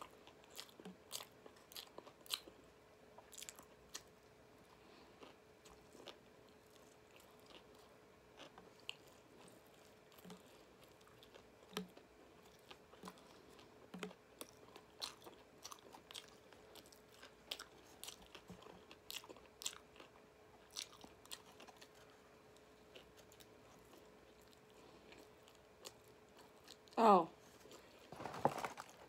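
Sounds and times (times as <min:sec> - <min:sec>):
close-up chewing: 0:00.0 - 0:29.0
faint steady hum: 0:00.0 - 0:29.0.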